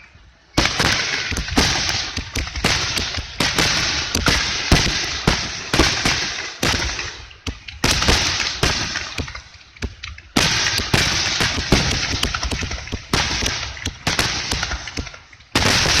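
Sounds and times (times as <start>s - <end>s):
firework crackling: 0.6s - 16.0s
firework shells bursting: 0.6s - 16.0s.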